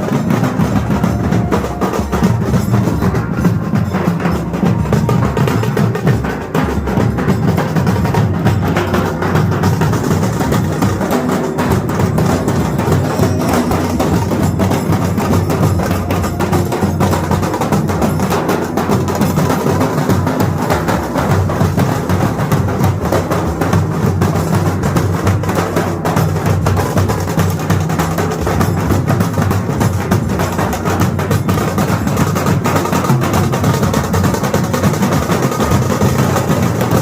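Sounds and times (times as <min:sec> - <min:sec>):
percussion-heavy music with busy drumming: 0:00.0 - 0:37.0.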